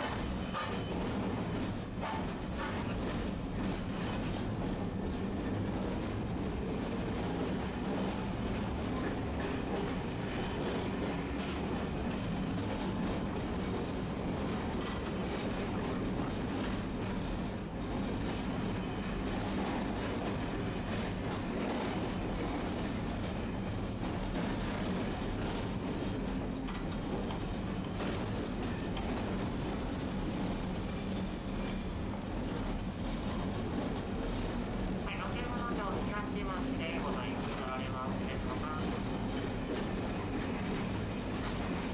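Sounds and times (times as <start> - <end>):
wheels rumbling on rail: 0.0 - 41.9.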